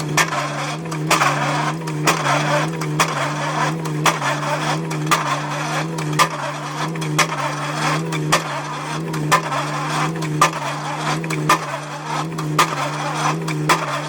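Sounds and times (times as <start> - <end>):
excavator engine drone: 0.0 - 14.0.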